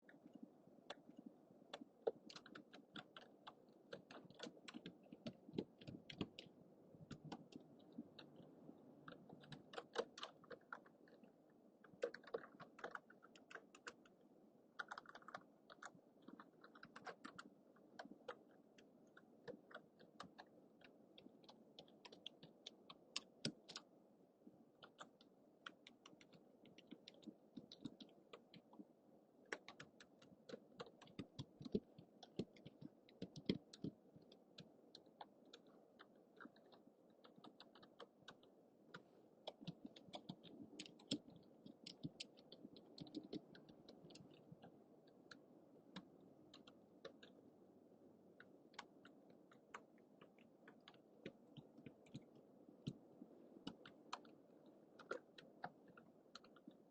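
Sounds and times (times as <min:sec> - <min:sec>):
typing on computer keyboard: 0:01.7 - 0:11.2, 0:11.8 - 0:14.2, 0:14.8 - 0:23.9, 0:24.8 - 0:28.8, 0:29.5 - 0:47.4, 0:48.4 - 0:53.0, 0:53.6 - 0:54.4, 0:55.0 - 0:56.9.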